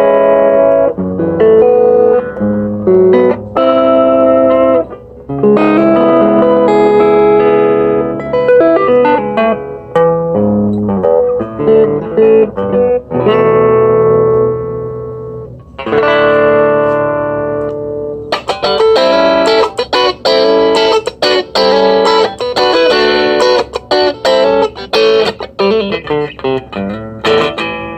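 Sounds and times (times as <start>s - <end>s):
electric guitar through small amp: 0.0s - 27.9s.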